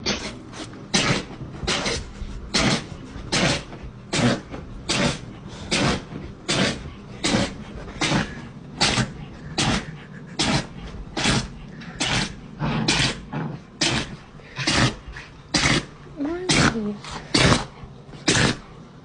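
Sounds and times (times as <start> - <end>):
pet sneezing: 0.0 - 18.7.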